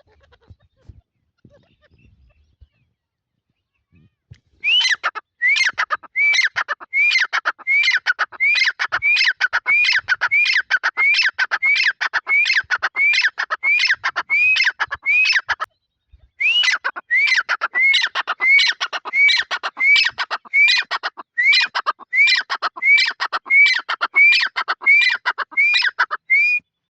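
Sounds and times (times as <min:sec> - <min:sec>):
partridge calling: 0:04.6 - 0:26.6.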